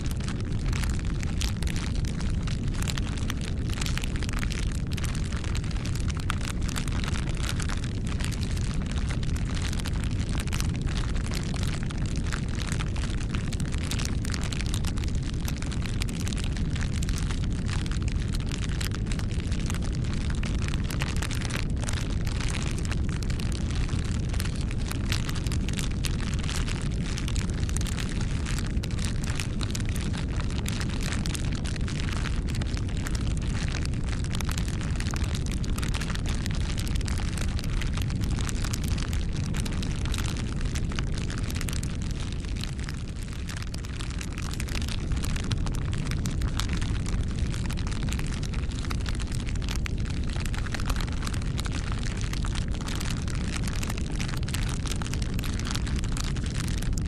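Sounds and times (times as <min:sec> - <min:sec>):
burning wood crackling and popping: 0:00.0 - 0:57.0
flame rumbling: 0:00.0 - 0:57.0.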